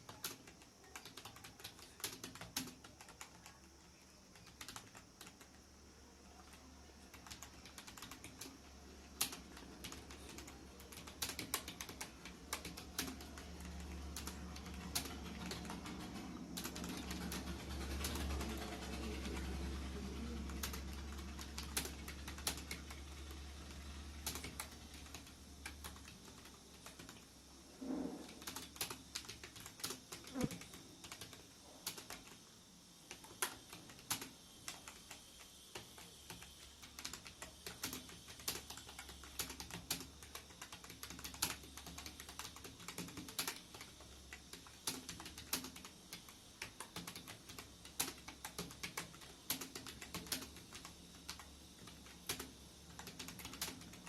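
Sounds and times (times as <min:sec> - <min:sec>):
keyboard typing: 0:00.0 - 0:27.3, 0:28.2 - 0:32.4, 0:33.1 - 0:54.0.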